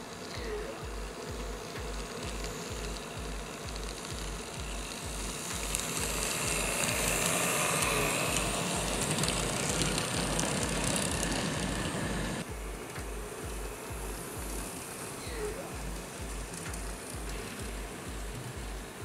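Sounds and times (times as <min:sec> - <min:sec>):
background music with bass beat: 0:00.0 - 0:19.0
model train running on track: 0:00.0 - 0:19.0.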